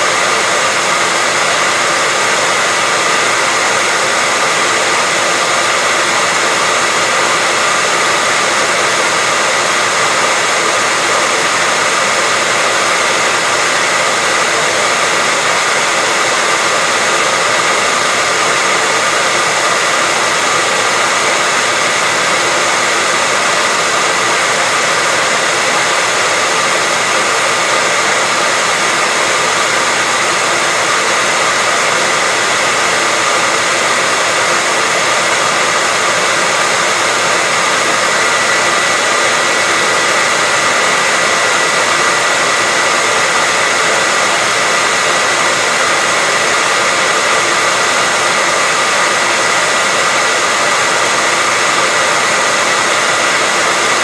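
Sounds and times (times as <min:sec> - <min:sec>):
hairdryer running: 0:00.0 - 0:54.0.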